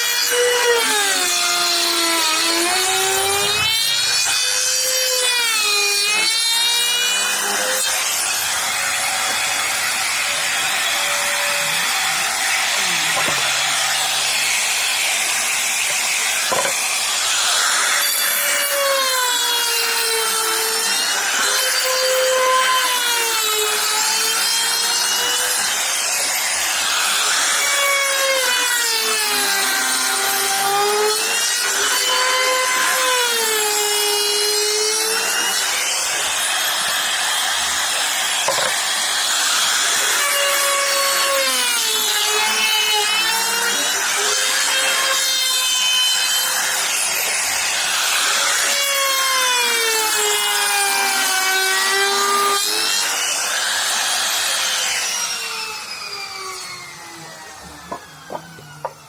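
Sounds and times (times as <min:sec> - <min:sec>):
power tool cutting wood: 0:00.0 - 0:59.0.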